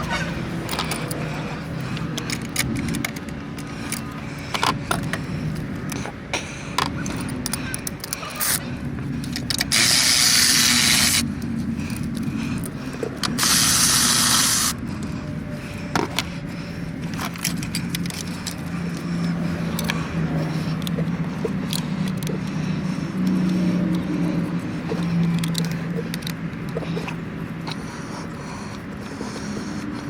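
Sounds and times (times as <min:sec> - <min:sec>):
scattered clicks and knocks: 0:00.0 - 0:30.0
steady low hum: 0:00.0 - 0:30.0.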